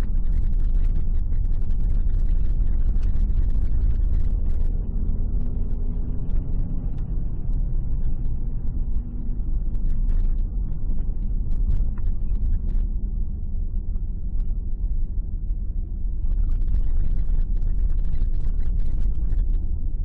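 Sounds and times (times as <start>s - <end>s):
small clicks and rattles: 0.0s - 12.9s, 16.3s - 20.0s.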